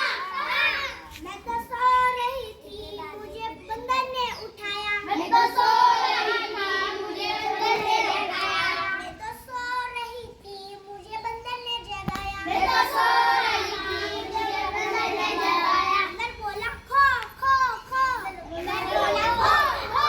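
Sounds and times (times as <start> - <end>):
children singing together: 0.0 - 20.0.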